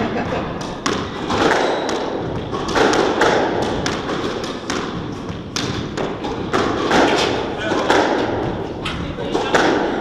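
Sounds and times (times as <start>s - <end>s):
squash ball knocks echoing: 0.1s - 10.0s.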